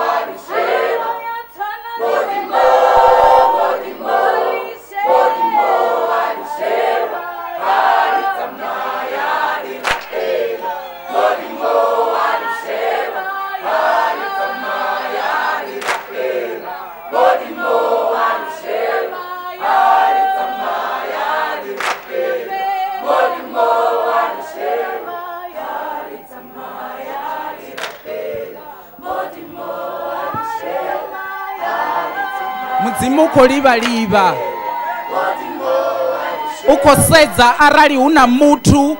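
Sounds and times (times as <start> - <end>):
choir singing: 0.0 - 37.5.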